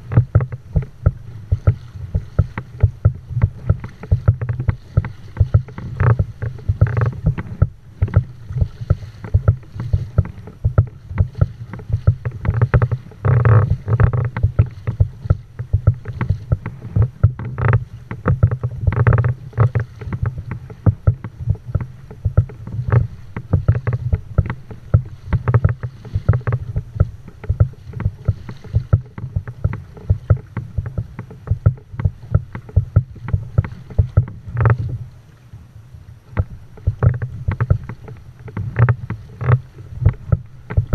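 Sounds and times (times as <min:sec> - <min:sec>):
water slapping kayak hull: 0:00.0 - 0:40.9
water splashing: 0:00.0 - 0:40.9.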